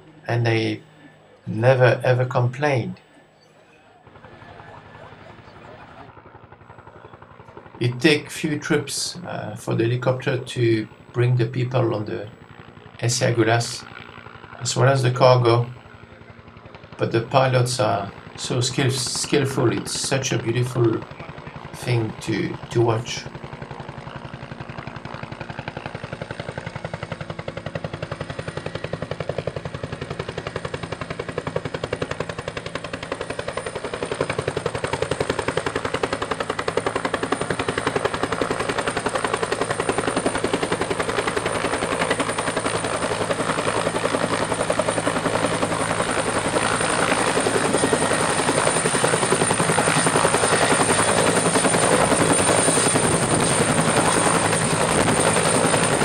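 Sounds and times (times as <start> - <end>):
helicopter rotor chop: 0.0 - 56.0
helicopter turbine whine: 0.0 - 56.0.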